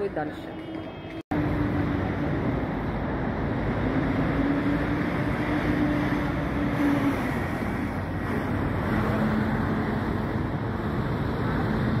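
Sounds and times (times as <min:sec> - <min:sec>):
vehicles passing: 0:00.0 - 0:12.0
steady engine hum: 0:00.8 - 0:12.0.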